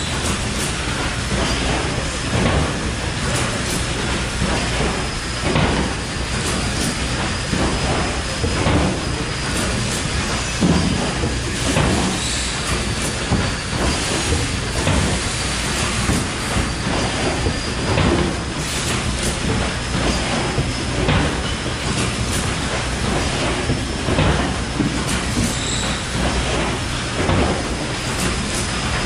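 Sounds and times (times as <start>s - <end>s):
machine clattering with knocks: 0.0s - 29.0s.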